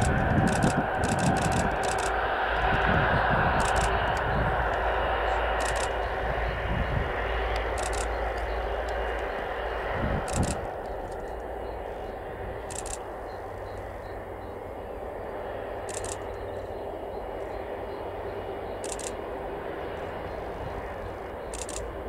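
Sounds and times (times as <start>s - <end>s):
jet engines rushing: 0.0s - 22.0s
low rumble: 0.0s - 22.0s.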